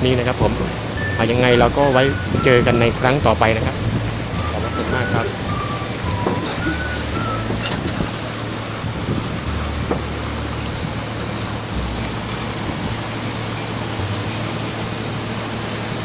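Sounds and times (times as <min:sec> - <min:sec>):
boat engine humming: 0:00.0 - 0:16.0
wind and water rushing: 0:00.0 - 0:16.0.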